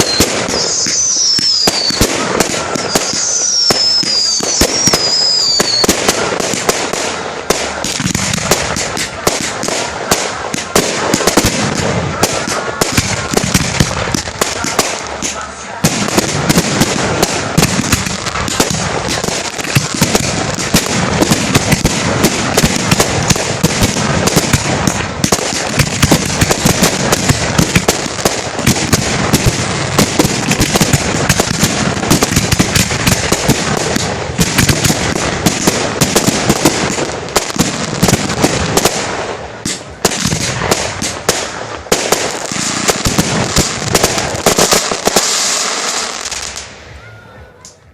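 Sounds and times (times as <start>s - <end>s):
firework bursts and crackling: 0.0s - 47.9s.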